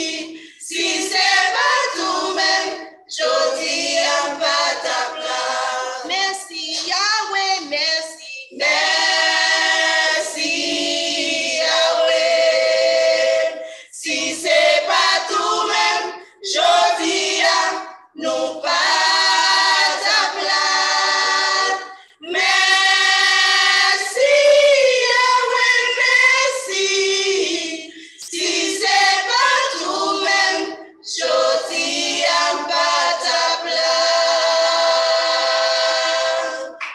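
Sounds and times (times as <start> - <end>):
gospel choir singing: 0.0 - 36.9.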